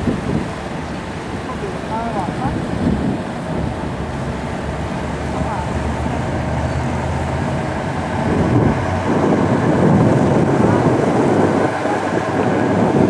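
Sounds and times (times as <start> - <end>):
boat engine droning: 0.0 - 13.0
wind buffeting microphone: 0.0 - 13.0.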